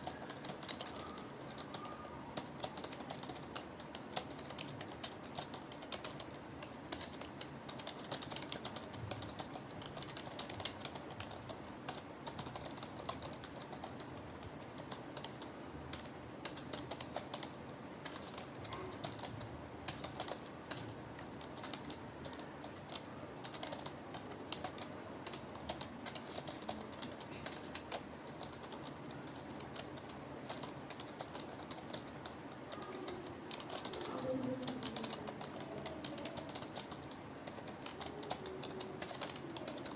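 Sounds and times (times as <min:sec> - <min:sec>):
keyboard keys clicking: 0:00.0 - 0:39.9.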